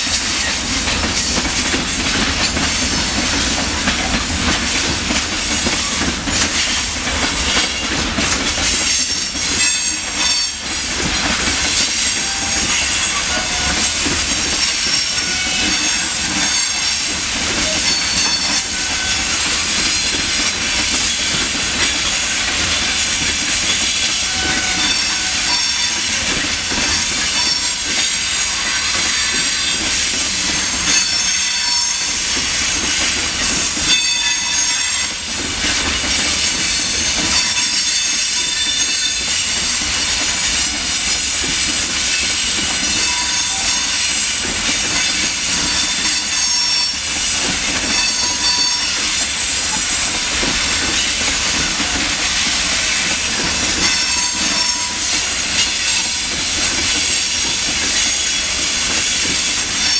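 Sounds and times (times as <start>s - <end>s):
train wheels rumbling on rails: 0.0s - 59.9s
wheels squealing: 8.6s - 59.9s.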